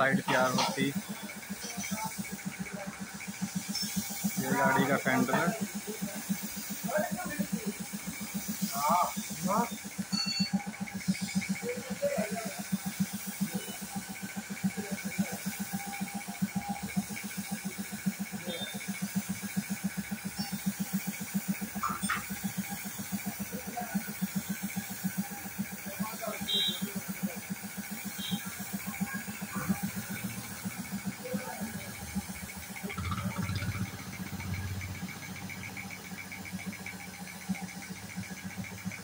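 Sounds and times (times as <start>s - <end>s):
air compressor running: 0.0s - 39.0s
paint spray gun hissing: 0.0s - 39.0s.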